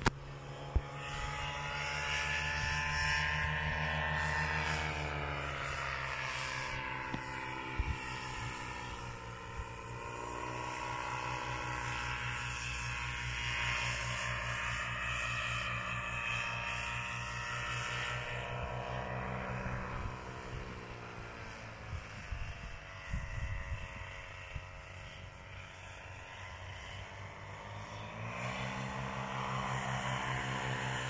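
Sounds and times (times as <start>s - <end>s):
paraglider engine droning overhead: 0.0s - 31.0s.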